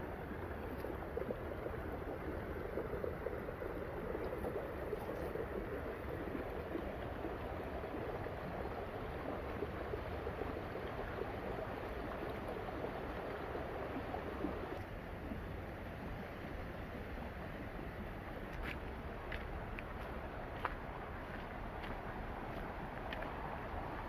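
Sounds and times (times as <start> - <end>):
stream water flowing: 0.0 - 24.0.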